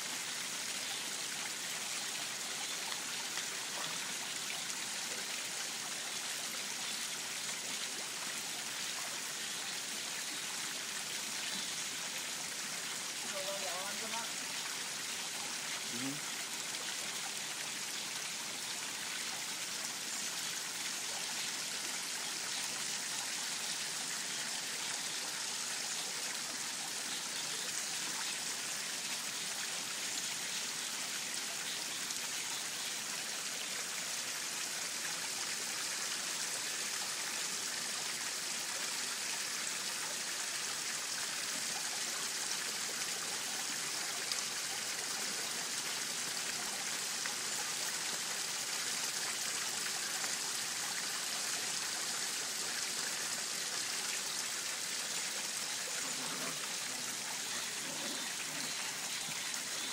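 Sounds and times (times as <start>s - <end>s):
waterfall splashing into pond: 0.0s - 59.9s.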